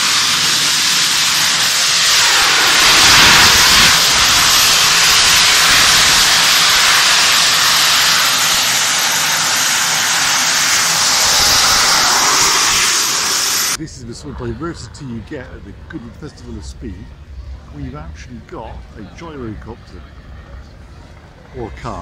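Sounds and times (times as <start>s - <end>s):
jet turbines high-pitched hiss: 0.0s - 19.8s.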